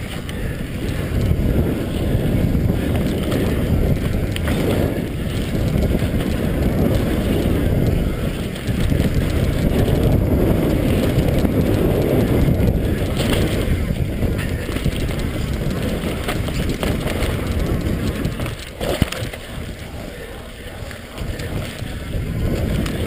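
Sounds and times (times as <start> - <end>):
bike clicks and rattles: 0.0 - 23.0
tyres on dirt trail: 0.0 - 23.0
wind on microphone: 0.0 - 23.0.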